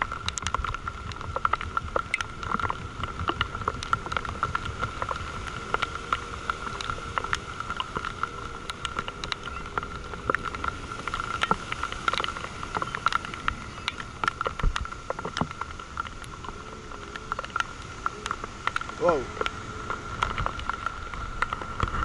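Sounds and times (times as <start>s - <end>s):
crackling and clicking of lines: 0.0s - 22.0s
wind buffeting camera: 0.0s - 22.0s.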